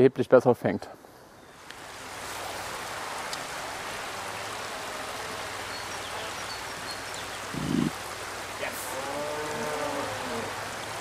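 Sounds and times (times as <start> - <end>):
stream water rushing: 1.4 - 11.0.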